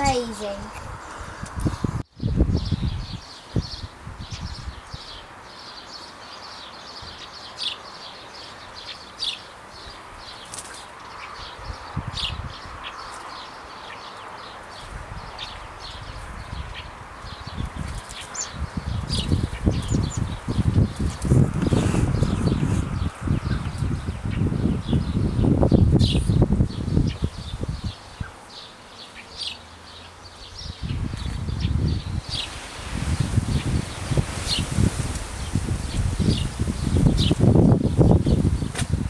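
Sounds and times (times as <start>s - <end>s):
small birds chirping: 0.0s - 1.8s, 2.5s - 39.0s.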